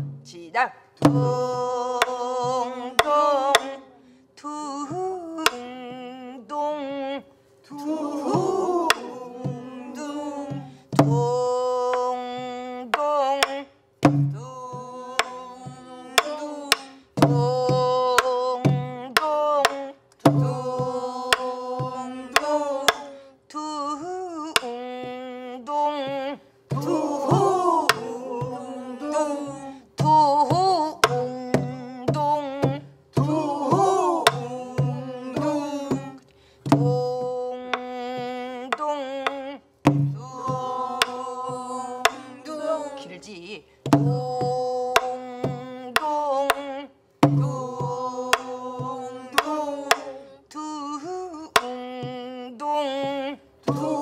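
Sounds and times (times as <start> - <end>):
person singing with vibrato: 1.0 - 54.0.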